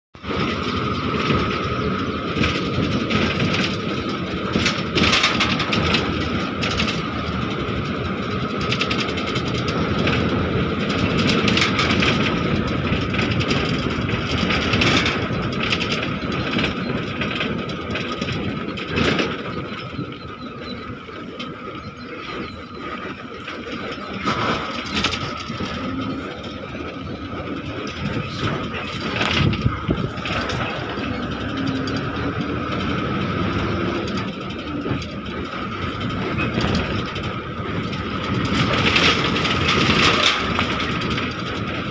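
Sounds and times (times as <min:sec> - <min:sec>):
bus engine and tyre rush: 0:00.1 - 0:41.9
knocks and rattles from bus body: 0:00.2 - 0:41.9.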